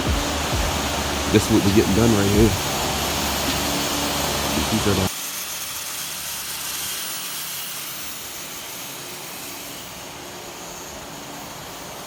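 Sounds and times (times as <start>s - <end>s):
power tool grinding whir: 0.0s - 12.0s.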